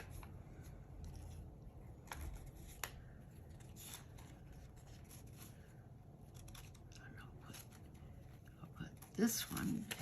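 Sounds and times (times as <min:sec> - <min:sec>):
paper rustling and shuffling: 0:00.0 - 0:10.0.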